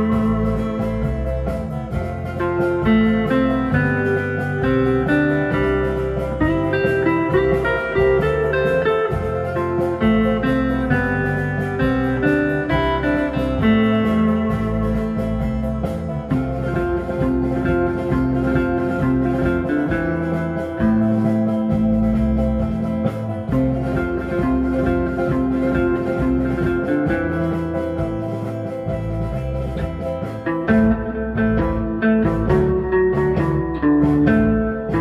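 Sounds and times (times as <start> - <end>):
bass line: 0.0 - 35.0
guitar music: 0.0 - 35.0.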